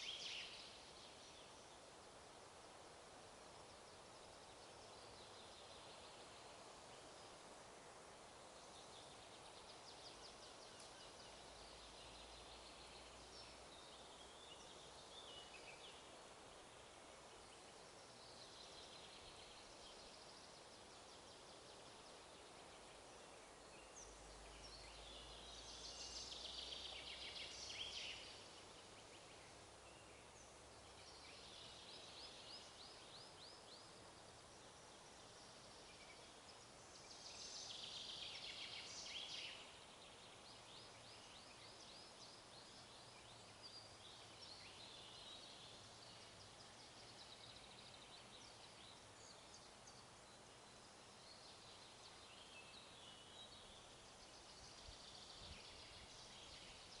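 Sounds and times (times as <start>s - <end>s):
songbirds singing trills: 0.0s - 2.0s, 8.4s - 57.0s
soft wind hiss: 0.0s - 57.0s.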